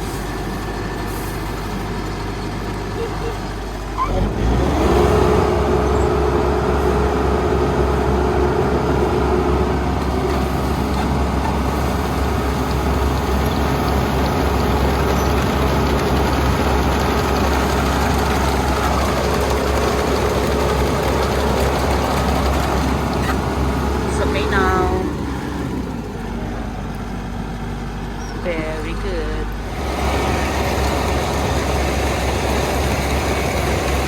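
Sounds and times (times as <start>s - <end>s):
combine harvester diesel engine: 0.0s - 34.0s.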